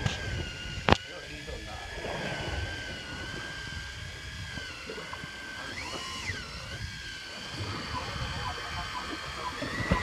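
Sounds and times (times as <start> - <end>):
small motor whining: 0.0 - 10.0
water noise: 0.0 - 10.0.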